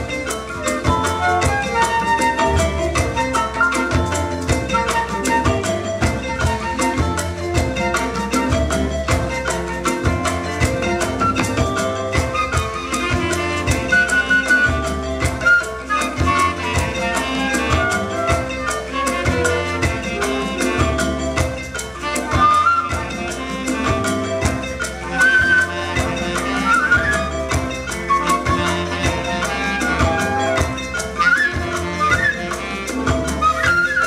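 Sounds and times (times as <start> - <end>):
congas and hand drums: 0.0 - 34.0
flute melody: 0.0 - 34.0
live jazz band: 0.0 - 34.0.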